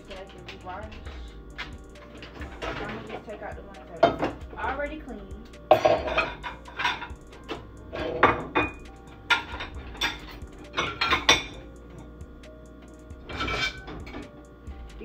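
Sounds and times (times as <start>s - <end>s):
dishes and cutlery clinking: 0.0s - 4.8s, 5.5s - 12.1s, 12.9s - 14.4s.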